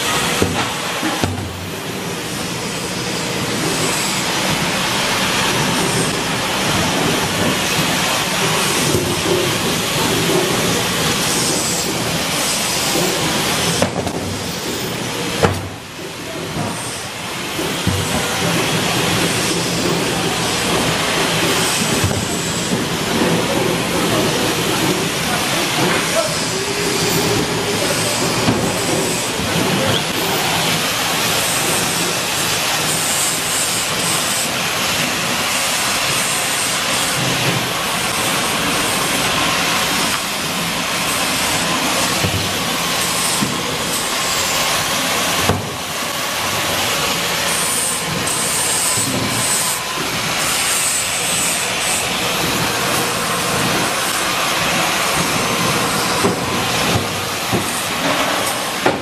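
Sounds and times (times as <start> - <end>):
loud hissing workshop noise: 0.0 - 59.0.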